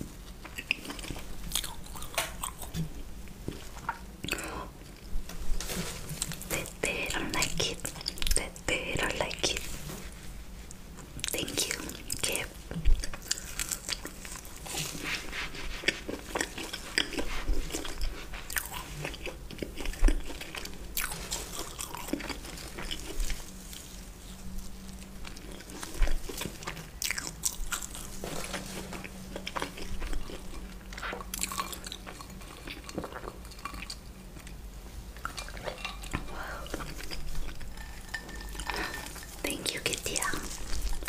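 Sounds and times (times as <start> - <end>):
person chewing crunchy food: 0.0 - 5.1, 10.8 - 41.0.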